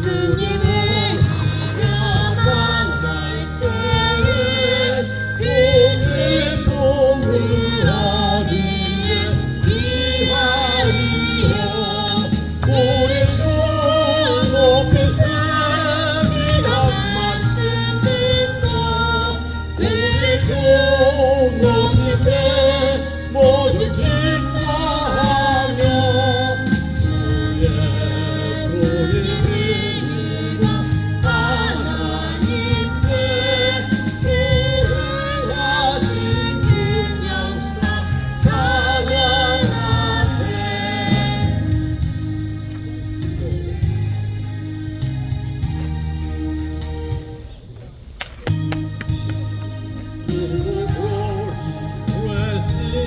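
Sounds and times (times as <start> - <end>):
person singing gospel with vibrato: 0.0 - 47.6, 48.5 - 53.0
instrumental accompaniment: 0.0 - 53.0.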